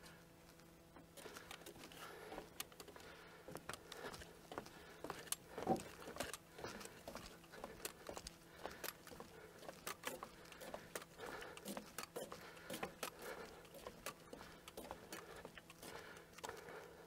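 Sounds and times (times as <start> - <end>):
footsteps on wooden boardwalk: 1.0 - 17.0.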